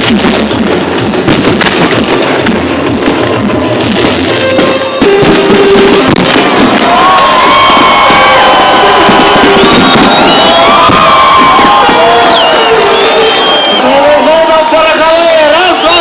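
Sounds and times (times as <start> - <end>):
fireworks bursting and crackling: 0.0 - 16.0
song playing loudly: 0.0 - 16.0.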